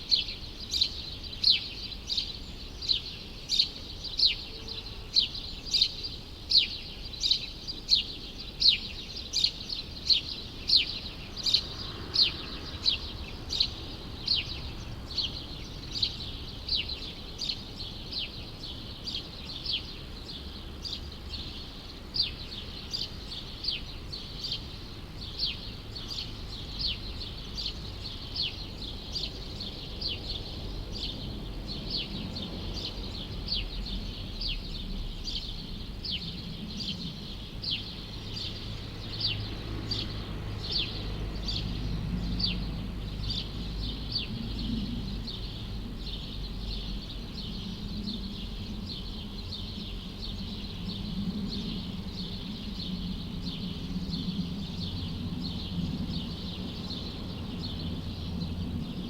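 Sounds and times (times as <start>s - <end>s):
low city hum: 3.8s - 59.0s.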